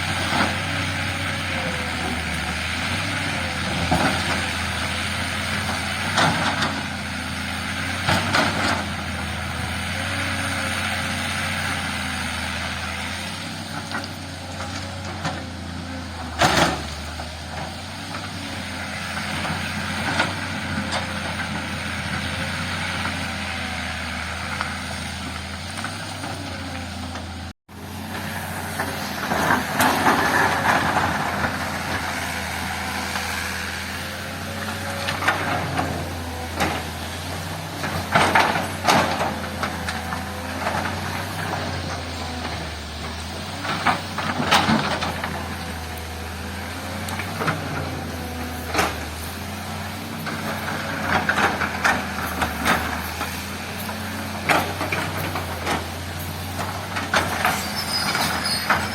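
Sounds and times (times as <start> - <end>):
heavy diesel machine running: 0.0 - 58.9.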